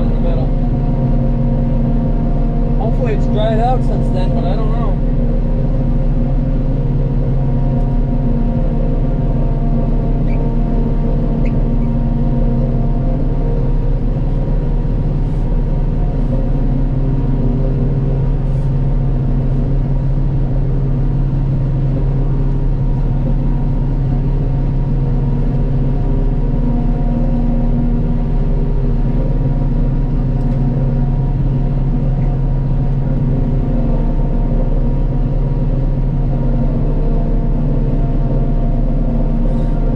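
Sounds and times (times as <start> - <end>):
harvester engine drone: 0.0 - 39.9.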